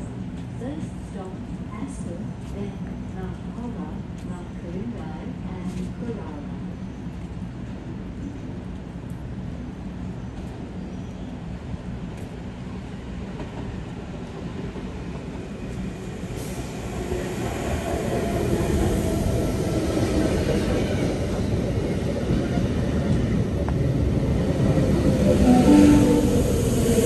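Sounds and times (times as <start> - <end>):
train rumbling into station: 0.0 - 27.0.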